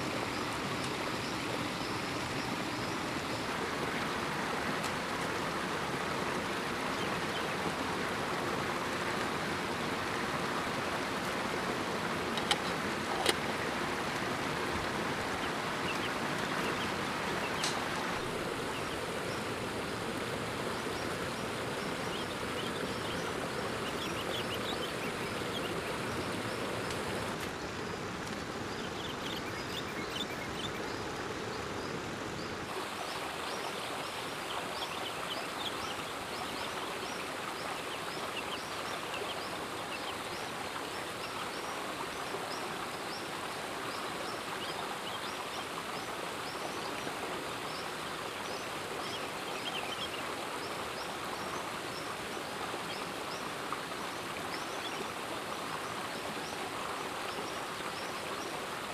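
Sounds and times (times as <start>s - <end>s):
forest stream rushing: 0.0s - 58.9s.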